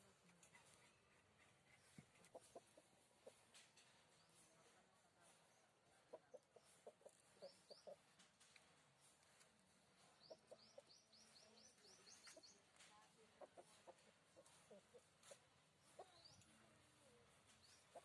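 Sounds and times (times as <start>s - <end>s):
chickens clucking: 0.0s - 18.0s
small bird chirping: 0.3s - 18.0s.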